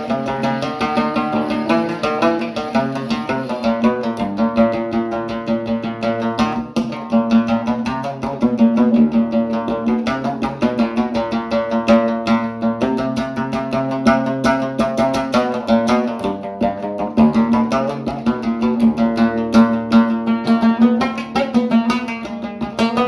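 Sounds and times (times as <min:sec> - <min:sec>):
fast plucked string instrument: 0:00.0 - 0:23.0.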